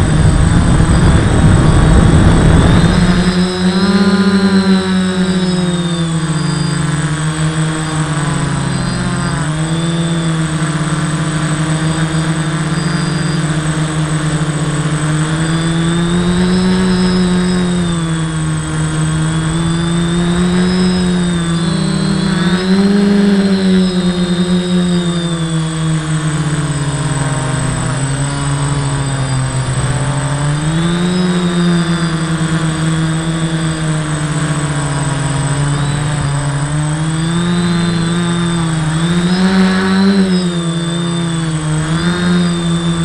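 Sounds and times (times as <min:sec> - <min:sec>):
drone propellers buzzing: 0:00.0 - 0:43.0.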